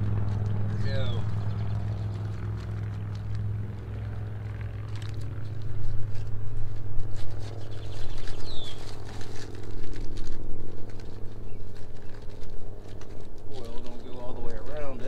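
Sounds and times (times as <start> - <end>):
low hum: 0.0 - 15.0
aluminium foil crinkling: 1.7 - 14.6.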